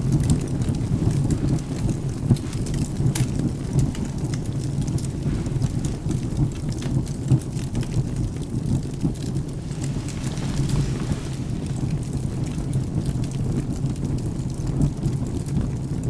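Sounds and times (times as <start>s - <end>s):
thunder rumbling: 0.0s - 14.4s
rain: 0.0s - 16.0s
wood fire crackling: 0.0s - 16.0s.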